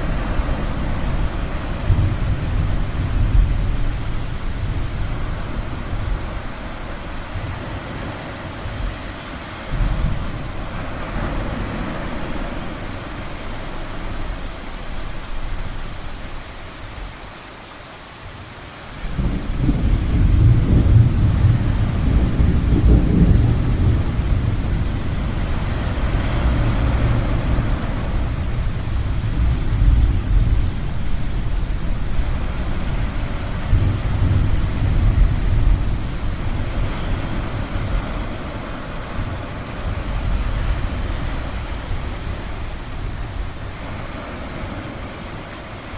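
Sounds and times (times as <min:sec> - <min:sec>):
deep thunder rumbling: 0:00.0 - 0:09.0, 0:09.6 - 0:14.0, 0:19.1 - 0:44.4
ocean surf: 0:00.0 - 0:45.9.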